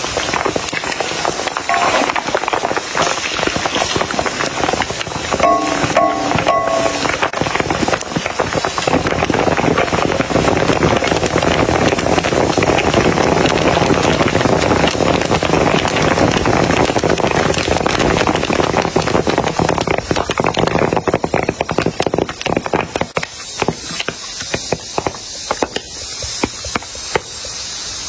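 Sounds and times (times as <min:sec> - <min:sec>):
popcorn popping in a wok: 0:00.0 - 0:28.0.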